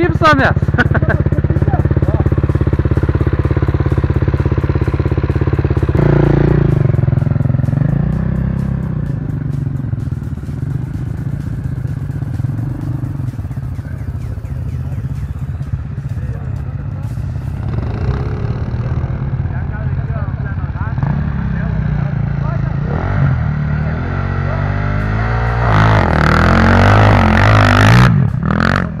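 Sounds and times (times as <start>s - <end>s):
quad engine idling and revving: 0.0s - 29.0s.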